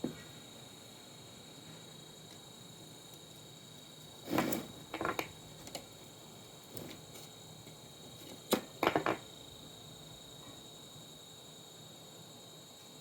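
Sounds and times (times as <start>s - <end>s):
faint high-pitched hiss: 0.0s - 13.0s.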